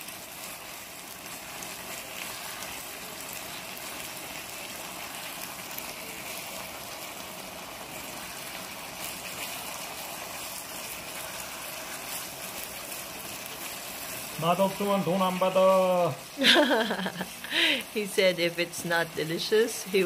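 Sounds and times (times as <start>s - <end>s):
pork sizzling in a frying pan: 0.0s - 20.0s.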